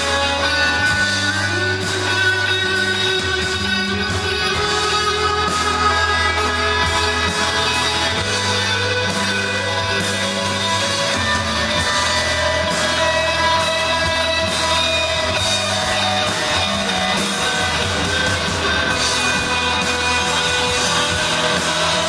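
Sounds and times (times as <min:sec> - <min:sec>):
rock band playing loud: 0:00.0 - 0:22.0.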